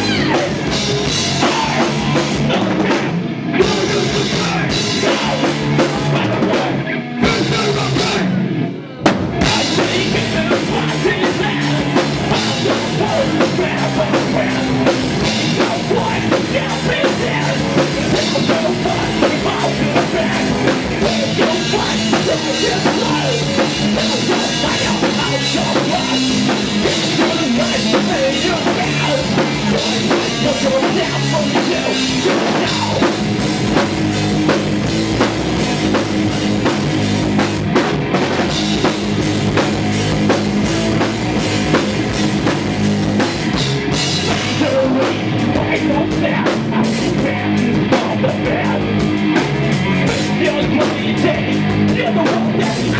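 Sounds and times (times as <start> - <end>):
heavy metal band playing live: 0.0 - 52.9.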